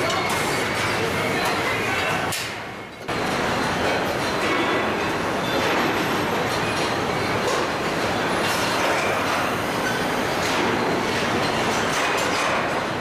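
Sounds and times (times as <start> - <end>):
assembly line machinery clatter: 0.0 - 13.0.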